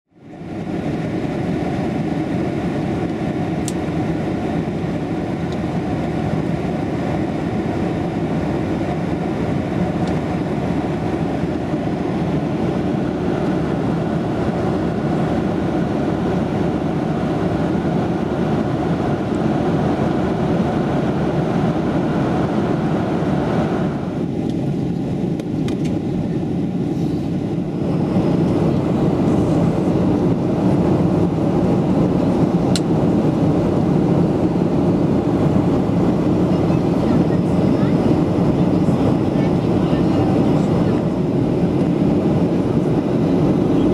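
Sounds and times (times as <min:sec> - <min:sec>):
airliner cabin engine rush: 0:00.1 - 0:43.9.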